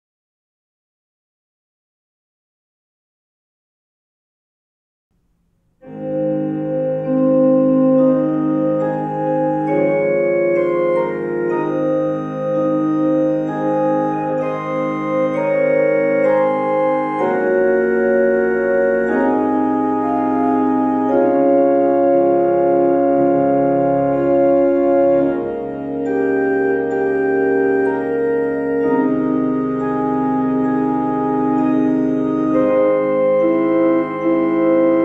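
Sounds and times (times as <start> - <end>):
organ playing slow chords: 5.2 - 35.0.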